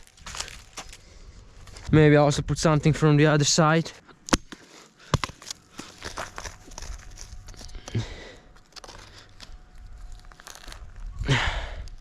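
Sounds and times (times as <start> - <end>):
twigs crunching and crackling: 0.0 - 2.0, 4.1 - 12.0.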